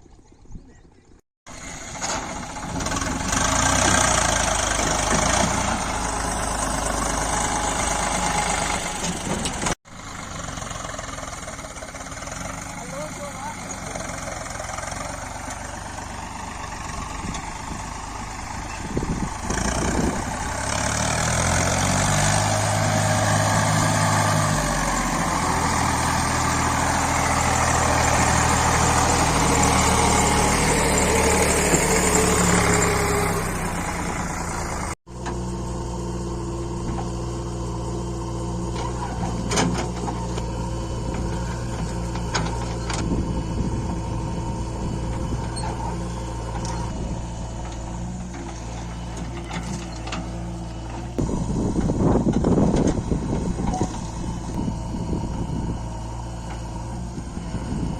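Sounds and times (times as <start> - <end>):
diesel engine revving: 1.5 - 57.9.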